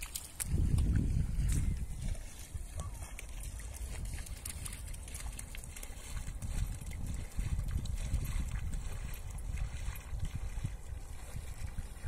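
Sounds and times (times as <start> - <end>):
small waves lapping: 0.0 - 12.0
wind buffeting microphone: 0.0 - 12.0.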